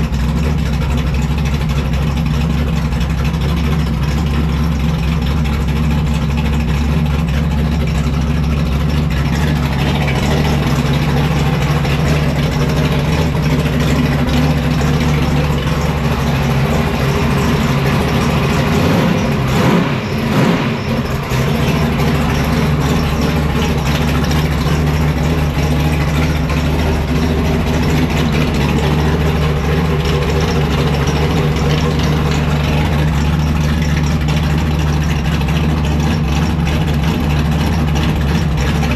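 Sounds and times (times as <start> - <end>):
race car engine idling: 0.0 - 38.9.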